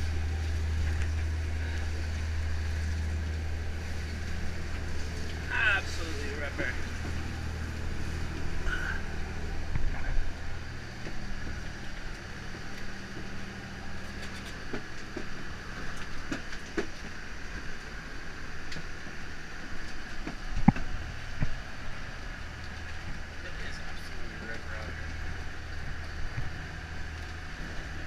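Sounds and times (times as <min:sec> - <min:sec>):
diesel engine droning: 0:00.0 - 0:28.0
wind and water noise: 0:00.0 - 0:28.0.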